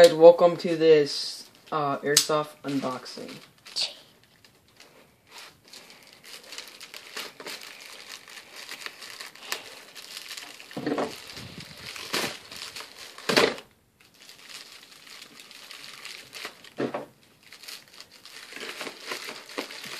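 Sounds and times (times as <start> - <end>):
plastic mailer crinkling: 2.7 - 19.9.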